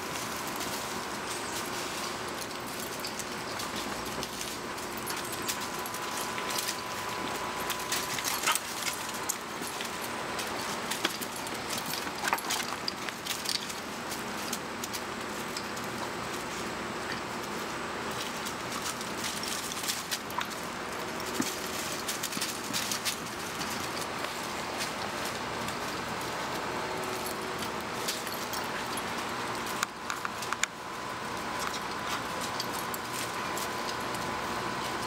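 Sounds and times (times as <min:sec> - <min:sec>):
collars jingling: 0:00.0 - 0:16.5, 0:17.3 - 0:35.0
paws scuffing on dry leaves: 0:00.0 - 0:35.0.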